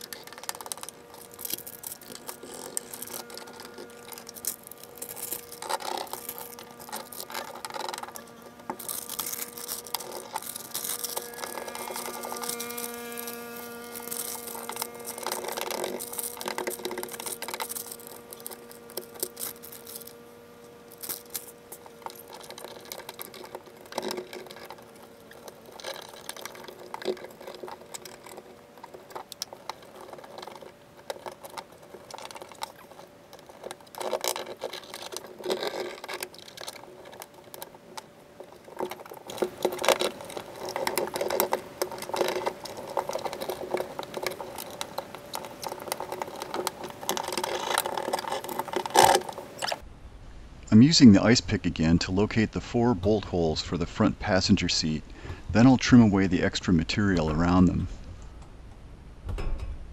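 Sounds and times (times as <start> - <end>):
foil mat crinkling and rustling: 0.0 - 49.9.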